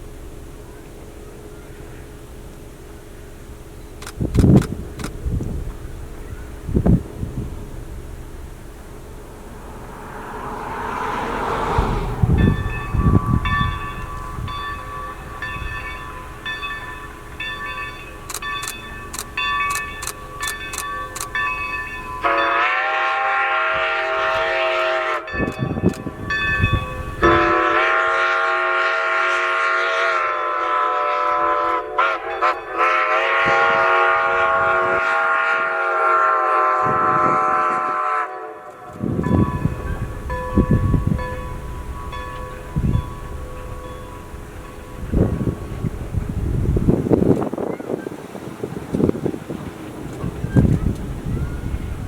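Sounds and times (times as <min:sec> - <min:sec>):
steady train noise: 0:00.0 - 0:52.0.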